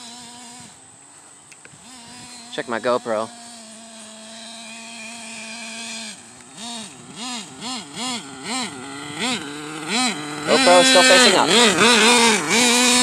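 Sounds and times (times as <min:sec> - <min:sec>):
small nitro engine revving: 0:00.0 - 0:13.0.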